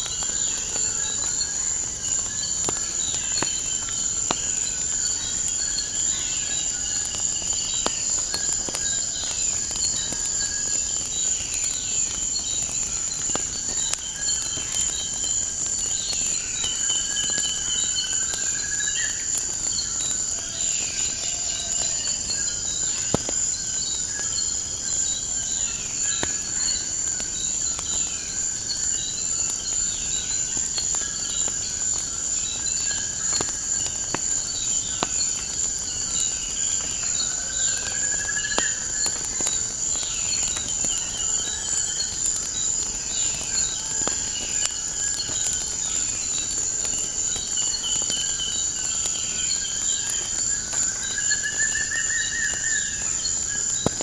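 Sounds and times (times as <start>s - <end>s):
high-pitched insect chorus: 0.0s - 54.0s
wood fire crackling: 0.0s - 54.0s.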